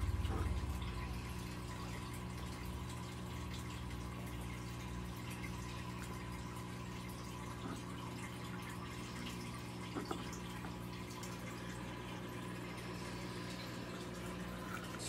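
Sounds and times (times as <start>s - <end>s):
low filter hum: 0.0s - 15.0s
water trickling: 0.0s - 15.0s.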